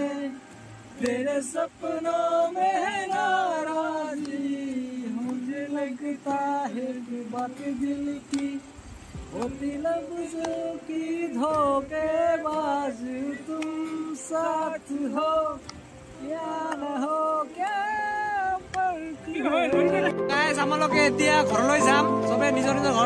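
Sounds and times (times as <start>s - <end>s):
acoustic guitar: 0.0s - 23.0s
men singing together: 0.0s - 23.0s.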